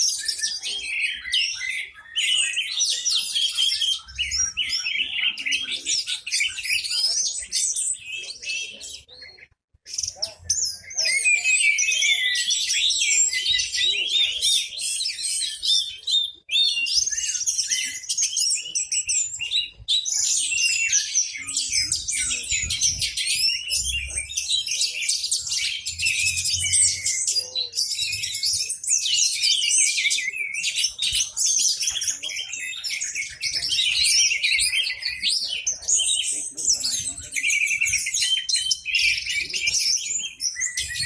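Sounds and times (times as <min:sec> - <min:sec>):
songbirds chirping: 0:00.0 - 0:41.0
thrush singing whistles and trills: 0:00.0 - 0:41.0.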